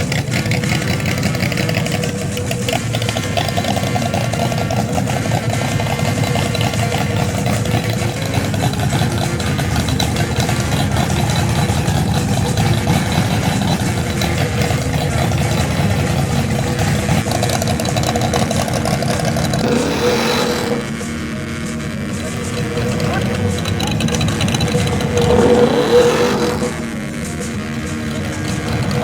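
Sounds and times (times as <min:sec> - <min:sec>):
hot rod engine idling: 0:00.0 - 0:29.0.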